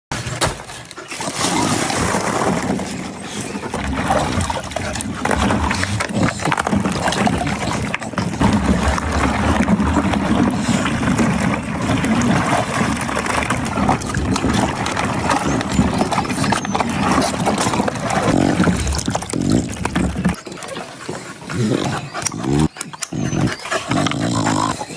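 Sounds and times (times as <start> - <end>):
water splashing as dog paddles: 0.1 - 24.9.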